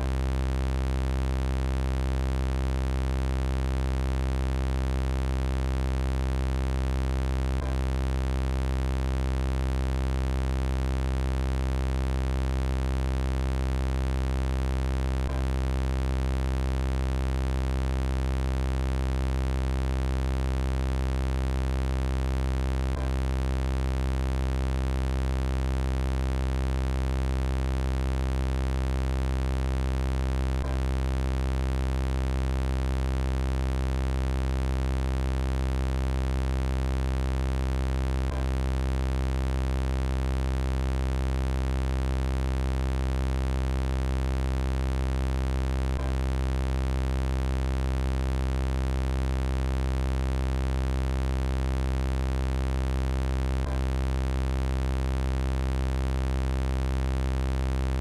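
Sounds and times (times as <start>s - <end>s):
low electronic buzzing drone: 0.0s - 58.0s.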